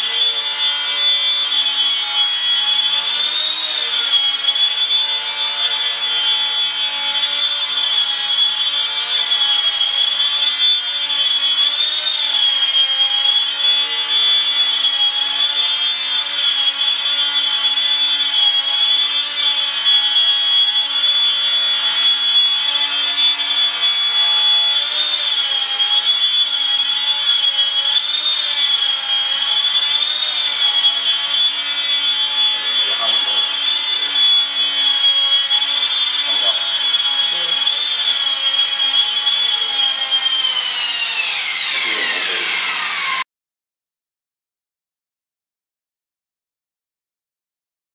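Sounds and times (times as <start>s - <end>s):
rc helicopter rotor whine: 0.0s - 43.2s.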